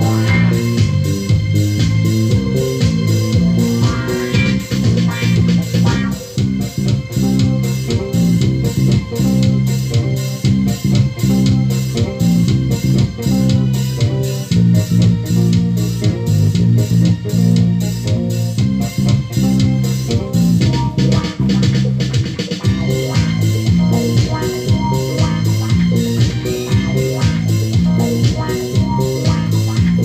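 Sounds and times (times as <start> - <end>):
loud music with bass and guitar: 0.0 - 30.0.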